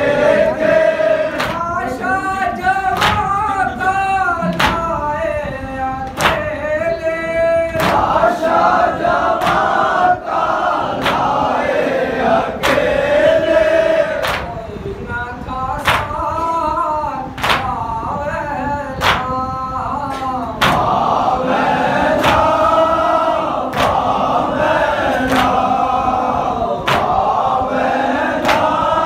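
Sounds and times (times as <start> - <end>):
rhythmic chest-beating slaps: 0.0 - 14.7, 15.7 - 29.0
men chanting in unison: 0.0 - 29.0.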